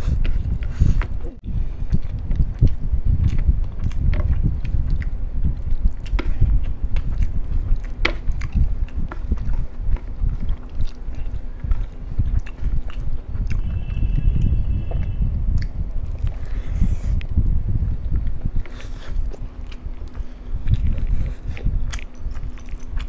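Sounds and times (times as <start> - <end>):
chewing and mouth smacking: 0.0 - 23.0.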